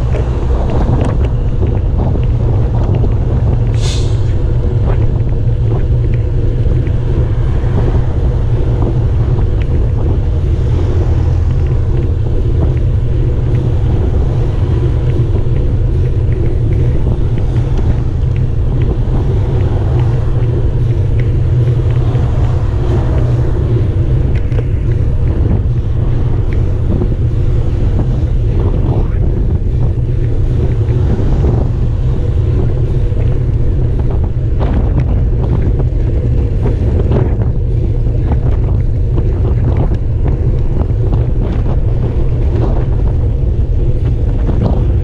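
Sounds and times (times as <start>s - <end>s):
cars passing: 0.0s - 45.0s
wind buffeting microphone: 0.0s - 45.0s.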